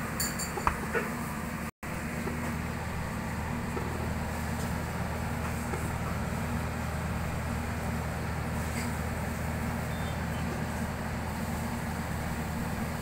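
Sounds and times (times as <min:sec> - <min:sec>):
ice maker humming: 0:00.0 - 0:13.0.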